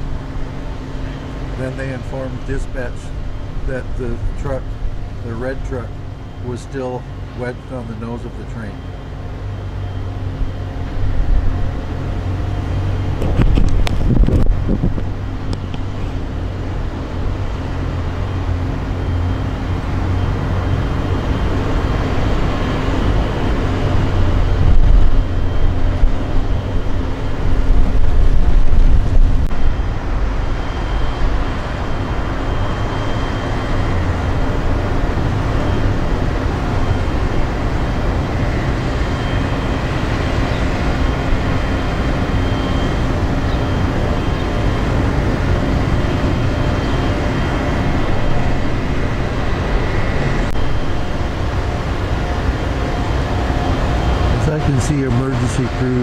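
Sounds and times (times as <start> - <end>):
diesel locomotive idling: 0.0 - 56.0.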